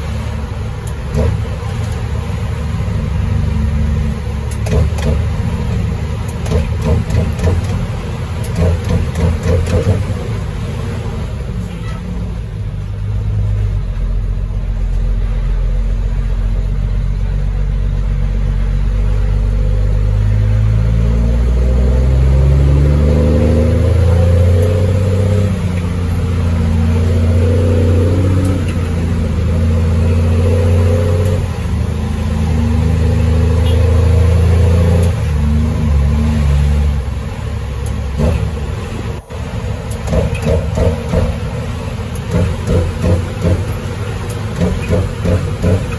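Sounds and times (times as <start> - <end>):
diesel truck engine accelerating: 0.0 - 45.9.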